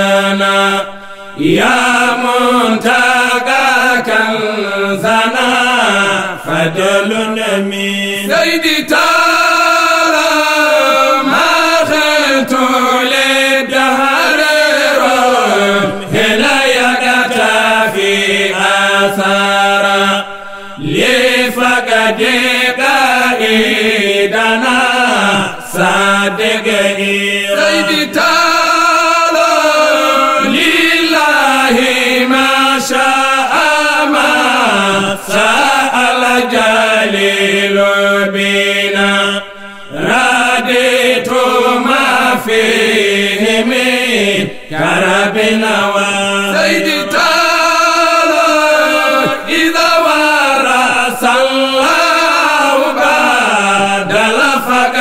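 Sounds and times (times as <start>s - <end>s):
men singing a religious chant: 0.0s - 55.0s.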